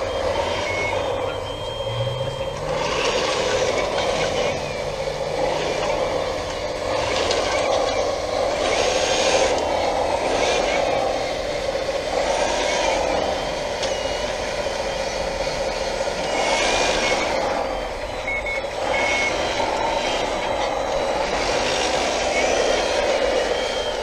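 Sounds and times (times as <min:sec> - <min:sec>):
reversing beeps: 0:00.0 - 0:09.4, 0:12.6 - 0:24.0
motor and hydraulic pump whine: 0:00.0 - 0:24.0.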